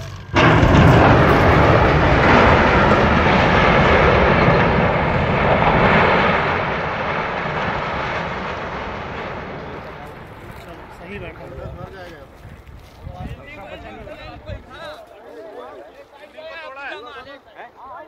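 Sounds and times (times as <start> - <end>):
rumble of building collapsing: 0.0 - 14.6.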